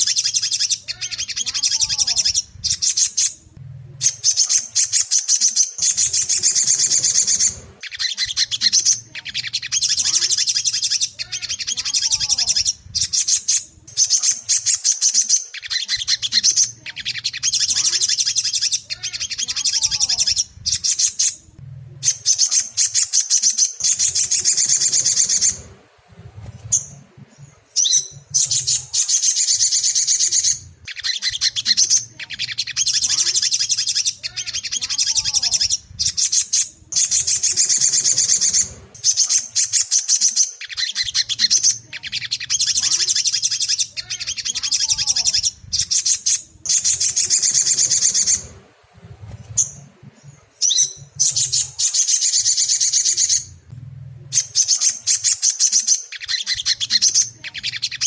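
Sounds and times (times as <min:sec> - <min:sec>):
bird singing high-pitched trills: 0:04.0 - 0:25.8, 0:26.6 - 0:48.6, 0:50.6 - 0:53.6, 0:54.3 - 0:58.0.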